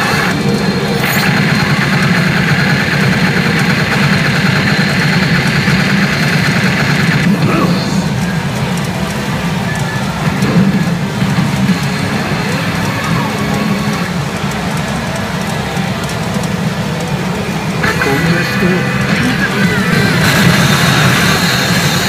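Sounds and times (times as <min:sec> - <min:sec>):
pachinko machine effects and music: 0:00.0 - 0:22.0
roar of machines: 0:00.0 - 0:22.0.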